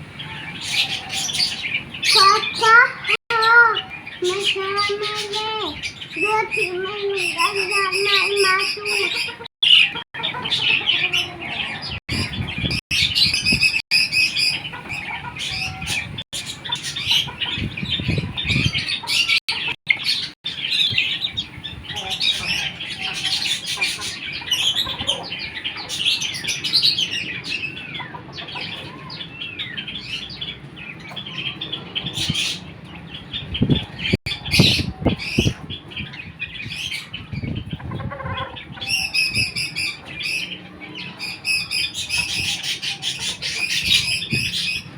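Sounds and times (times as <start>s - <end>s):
chickens chirping and squawking: 0.0s - 44.9s.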